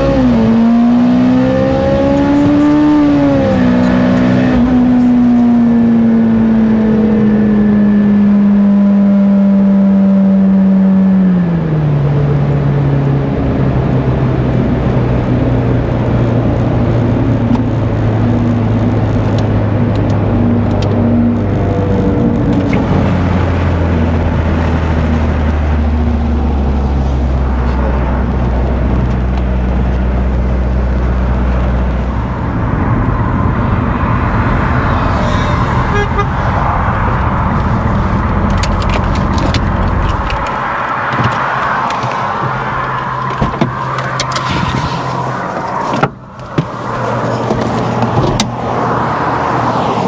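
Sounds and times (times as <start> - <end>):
car engine droning: 0.0 - 50.0
road and wind noise: 0.0 - 50.0.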